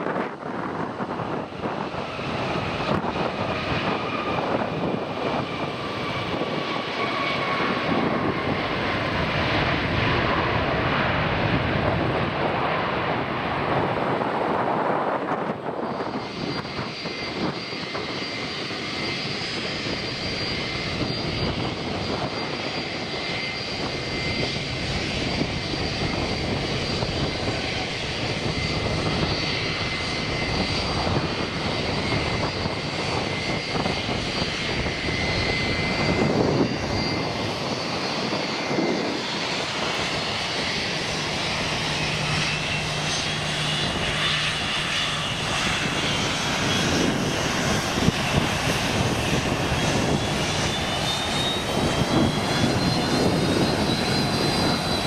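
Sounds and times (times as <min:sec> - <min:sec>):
aircraft engines rumbling and whining: 0:00.0 - 0:55.0.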